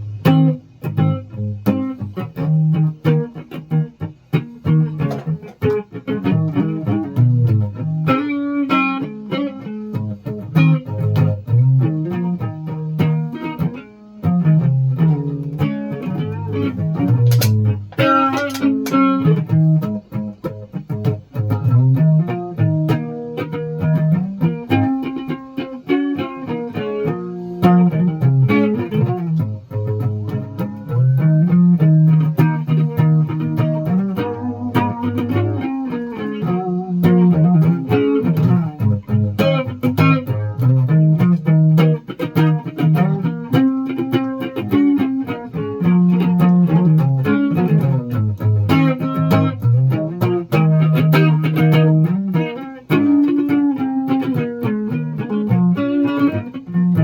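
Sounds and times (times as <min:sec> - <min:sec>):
plucked guitar music: 0:00.0 - 0:57.0.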